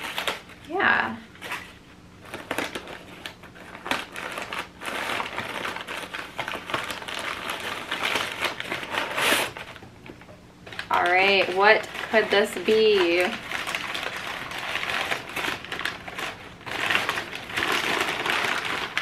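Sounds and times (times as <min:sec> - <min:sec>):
crumpled newspaper rustling: 0:00.0 - 0:19.0.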